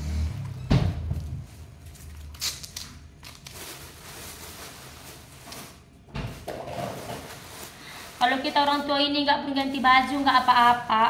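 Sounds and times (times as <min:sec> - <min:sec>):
plastic bag crinkling: 0:01.8 - 0:11.0.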